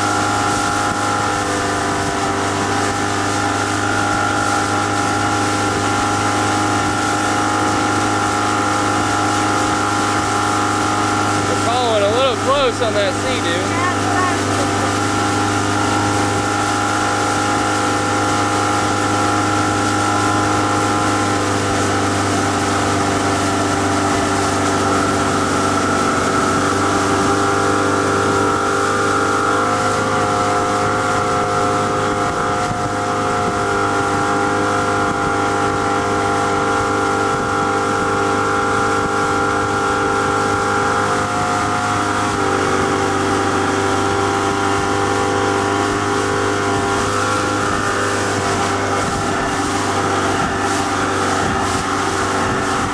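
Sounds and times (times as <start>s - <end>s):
outboard motor running: 0.0s - 52.9s
rush of wind and water: 0.0s - 52.9s.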